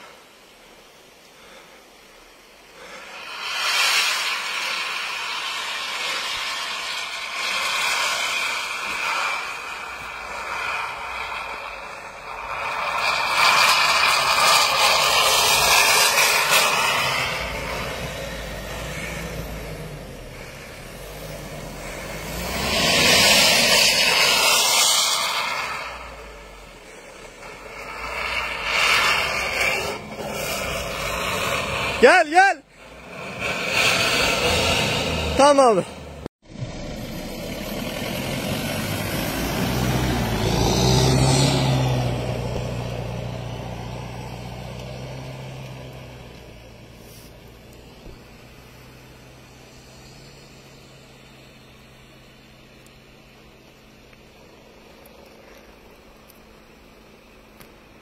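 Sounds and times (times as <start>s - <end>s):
tyres churning snow: 0.0s - 58.0s
rising whine: 2.7s - 58.0s
truck engine under load: 2.8s - 32.0s, 32.7s - 56.4s.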